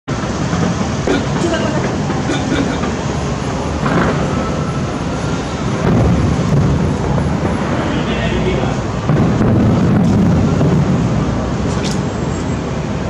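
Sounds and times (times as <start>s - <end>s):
distant fireworks booming: 0.1s - 13.0s.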